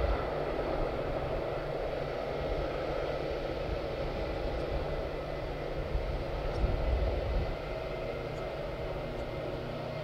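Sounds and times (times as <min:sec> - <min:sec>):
distant jet airliner hum: 0:00.0 - 0:10.0.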